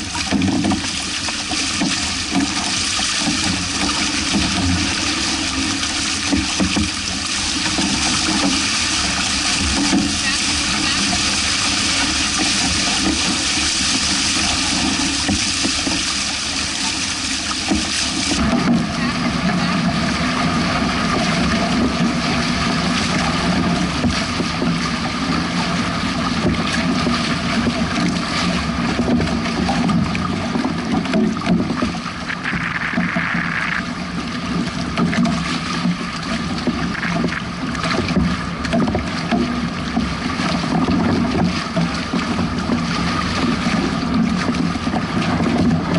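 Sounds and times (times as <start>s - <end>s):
boat hulls cutting through waves: 0.0s - 45.9s
choppy lake water slapping: 0.0s - 45.9s.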